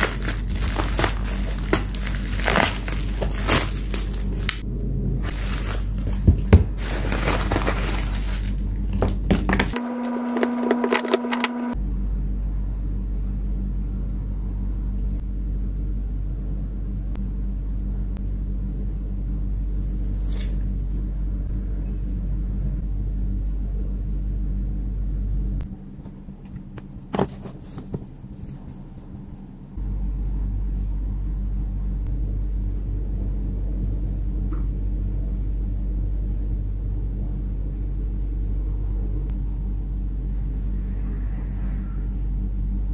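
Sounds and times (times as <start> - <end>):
low rumble: 0.0 - 9.8, 11.7 - 42.9
constant hum: 0.0 - 42.9.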